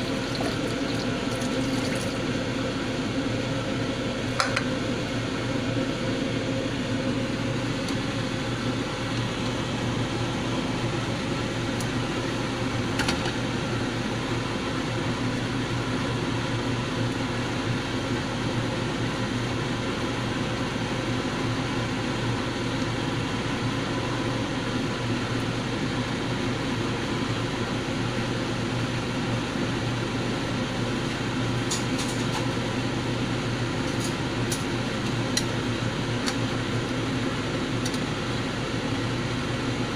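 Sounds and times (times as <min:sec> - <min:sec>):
mechanical hum with hiss: 0:00.0 - 0:39.9.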